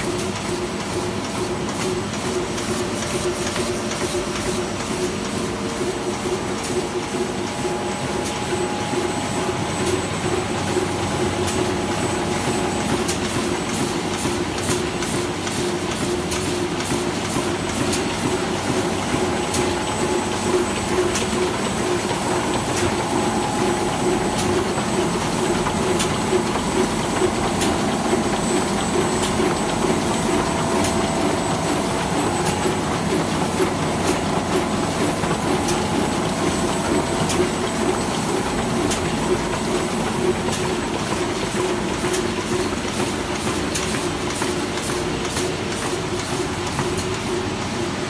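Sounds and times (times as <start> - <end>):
printing press hum and whine: 0.0 - 48.0.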